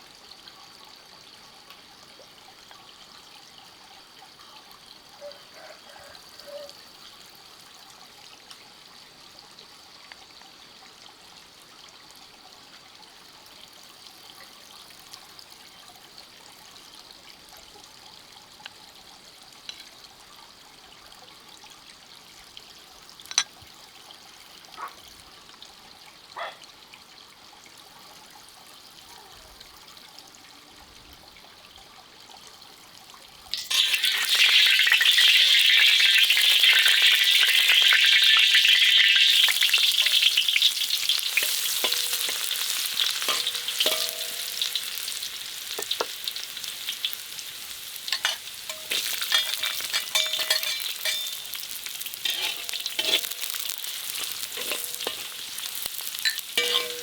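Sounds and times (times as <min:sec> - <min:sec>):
trickle of running water: 0:00.0 - 0:57.0.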